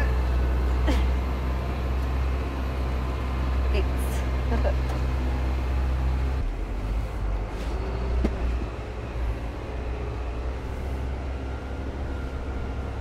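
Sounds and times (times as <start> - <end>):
diesel engine rumble: 0.0 - 13.0.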